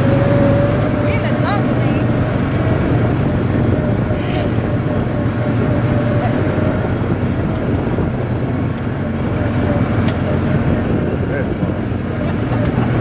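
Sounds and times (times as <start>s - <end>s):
atv engine droning: 0.0s - 13.0s.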